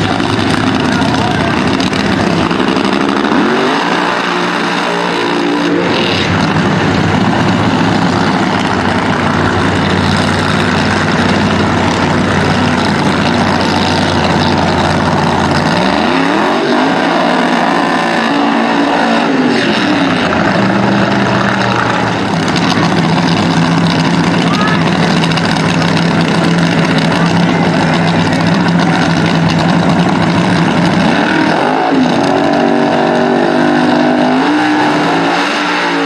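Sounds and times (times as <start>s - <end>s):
drag racing engines running loud: 0.0s - 36.0s.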